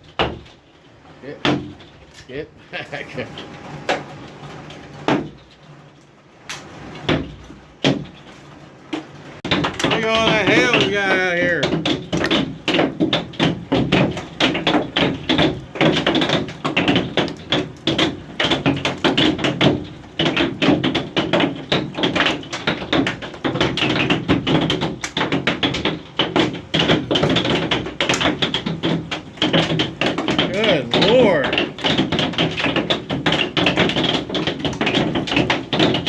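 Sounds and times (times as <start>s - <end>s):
hailstones pelting hard surfaces: 4.2s - 36.0s.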